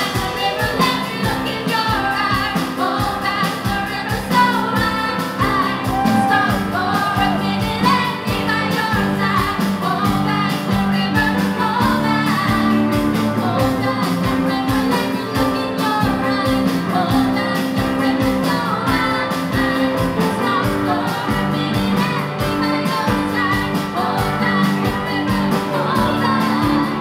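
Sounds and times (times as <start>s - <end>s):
drum kit beat: 0.0s - 27.0s
electric guitar: 0.0s - 27.0s
keyboard: 0.0s - 27.0s
women singing: 0.0s - 27.0s.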